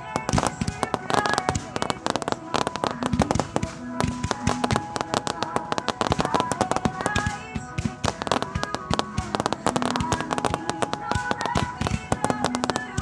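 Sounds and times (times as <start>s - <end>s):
fireworks cracking and popping: 0.0s - 13.0s
music with sustained notes: 0.0s - 13.0s.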